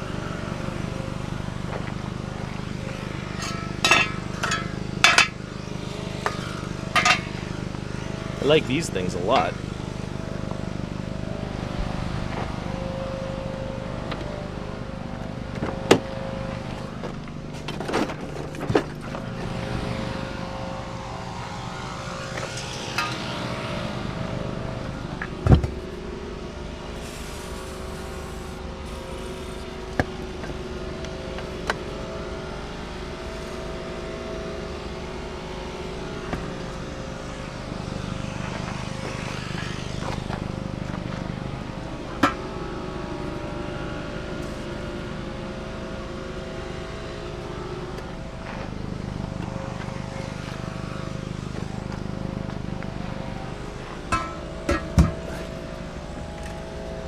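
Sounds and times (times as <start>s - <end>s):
motor vehicle running: 0.0s - 57.0s.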